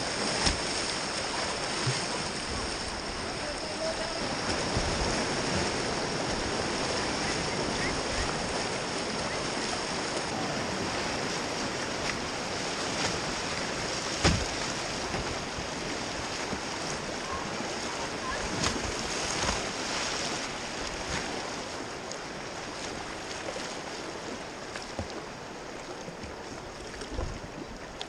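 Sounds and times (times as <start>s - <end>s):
river rapids rushing and splashing: 0.0s - 28.0s.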